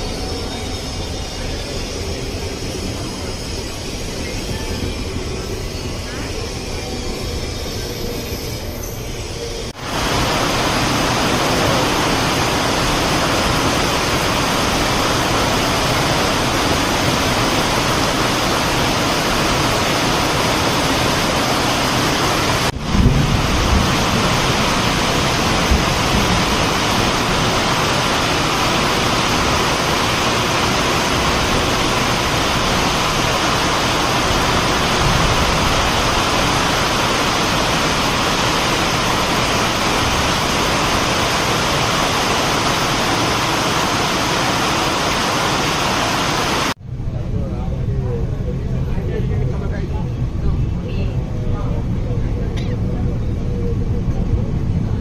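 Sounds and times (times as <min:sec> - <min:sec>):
moving train rushing: 0:00.0 - 0:55.0.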